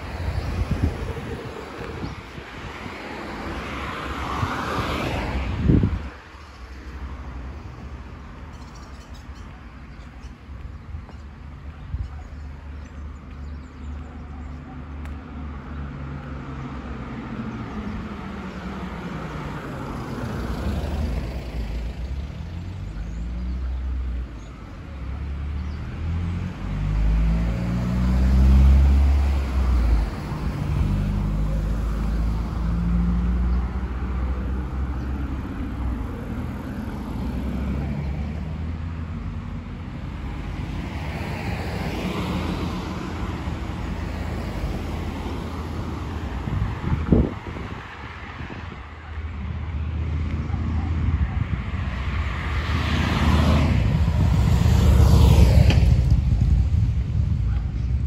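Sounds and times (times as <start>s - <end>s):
cars driving past: 0.0s - 10.3s, 12.7s - 58.0s.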